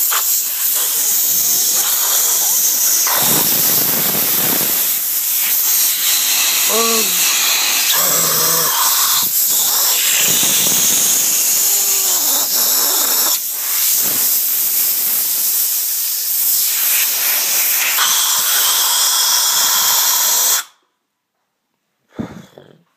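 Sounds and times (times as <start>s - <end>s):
compressed air blow gun hissing: 0.0s - 20.7s.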